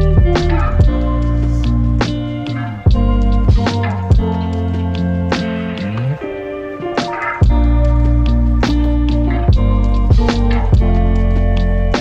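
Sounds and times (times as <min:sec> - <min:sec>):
music with bass and drums: 0:00.0 - 0:12.0.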